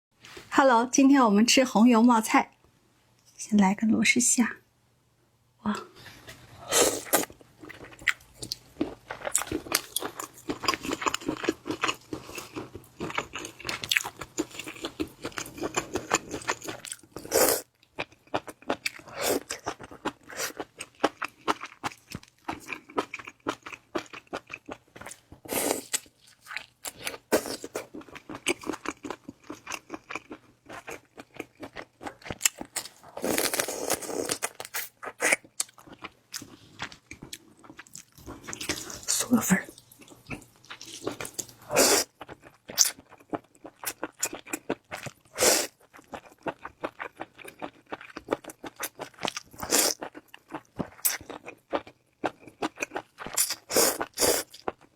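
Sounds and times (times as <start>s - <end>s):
chewing and crunching: 7.1s - 54.9s.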